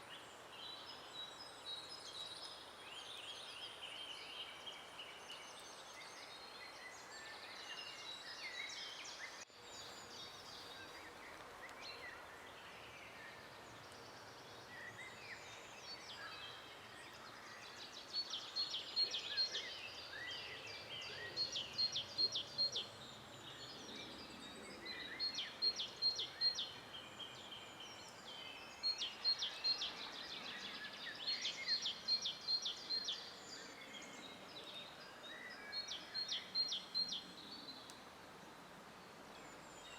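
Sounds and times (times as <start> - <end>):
bird song of quick repeated notes: 0.0 - 39.9
songbirds singing: 0.0 - 39.9.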